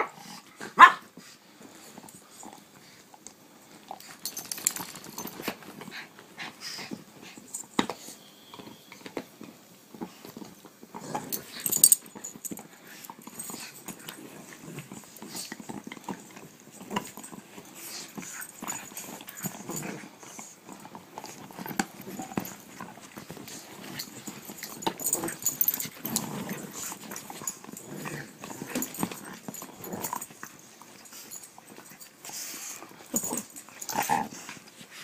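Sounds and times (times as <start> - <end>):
dogs scuffling: 3.9 - 7.6, 8.6 - 35.0.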